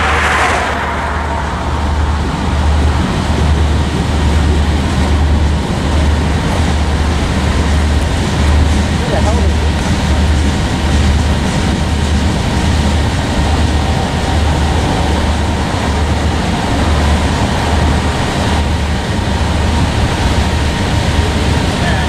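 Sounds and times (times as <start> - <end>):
freight train cars rolling past: 0.0 - 22.0.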